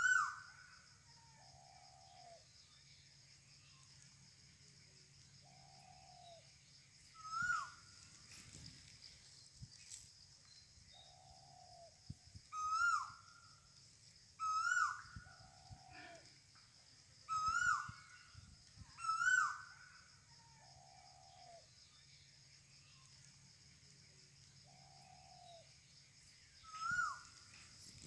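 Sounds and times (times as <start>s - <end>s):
high-pitched insect drone: 0.0s - 23.2s, 24.7s - 28.0s.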